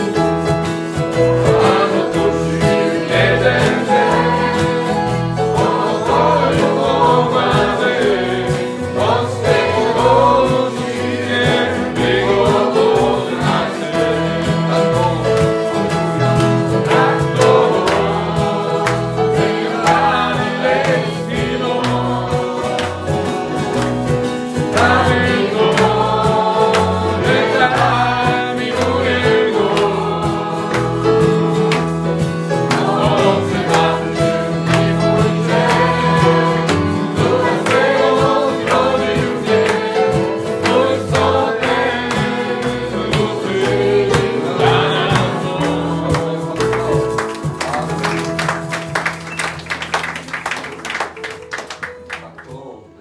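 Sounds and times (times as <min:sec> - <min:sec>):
voices singing: 0:00.0 - 0:48.6
instrumental accompaniment: 0:00.0 - 0:53.0.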